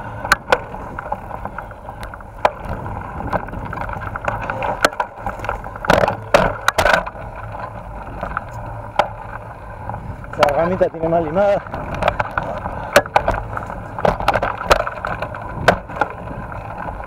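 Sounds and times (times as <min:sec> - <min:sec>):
bike rattling over bumps: 0:00.0 - 0:17.0.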